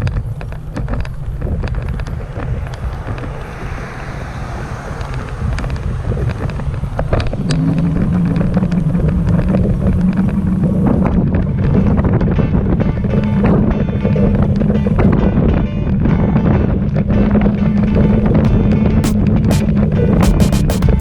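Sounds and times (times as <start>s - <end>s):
wind buffeting microphone: 0.0s - 20.0s
steady low tone: 0.0s - 21.0s.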